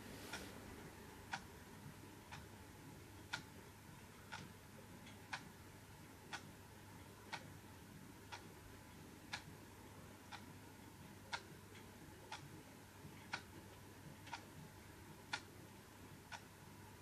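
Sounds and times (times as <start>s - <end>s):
faint low hum: 0.0s - 17.0s
clock ticking: 1.2s - 17.0s.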